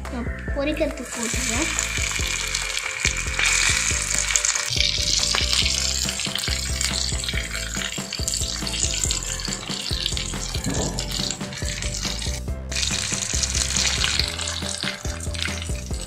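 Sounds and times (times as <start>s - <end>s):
background music: 0.0s - 16.0s
prawns sizzling in hot oil: 0.9s - 16.0s.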